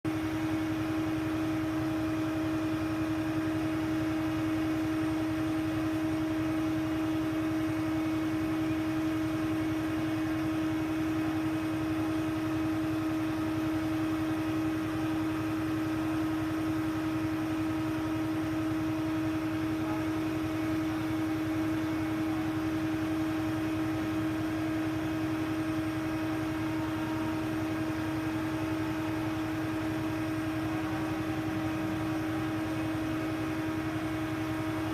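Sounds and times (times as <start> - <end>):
crane machine hum: 0.1 - 34.9
held whine: 0.1 - 34.9.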